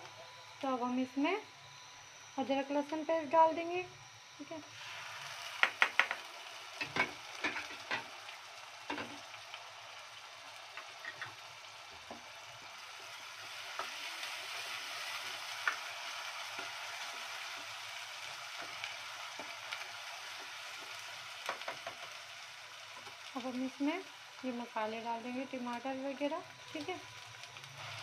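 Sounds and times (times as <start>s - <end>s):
onions sizzling in hot oil: 4.4s - 28.0s.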